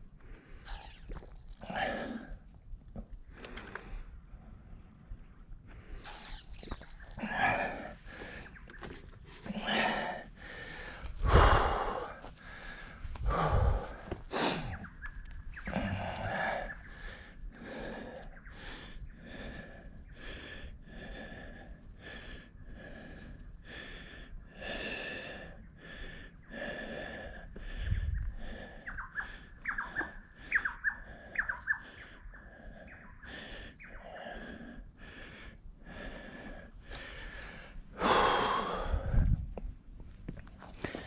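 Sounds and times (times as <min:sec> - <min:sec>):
person breathing hard: 0:05.6 - 0:14.9, 0:15.7 - 0:39.6, 0:40.7 - 0:41.0.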